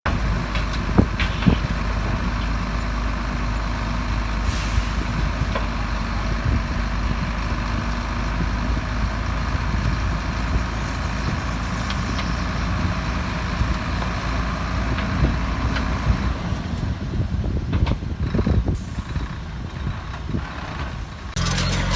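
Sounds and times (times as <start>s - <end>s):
heavy diesel machinery running: 0.1s - 21.9s.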